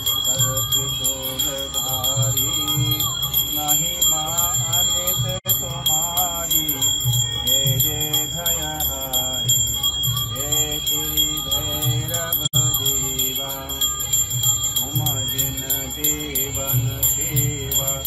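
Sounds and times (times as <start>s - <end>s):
devotional singing: 0.0s - 18.0s
hand bell ringing: 0.0s - 18.0s.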